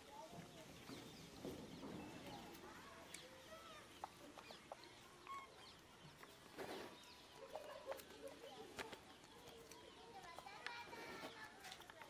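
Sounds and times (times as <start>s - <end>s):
faint bird chirps and clucks: 0.0s - 12.0s.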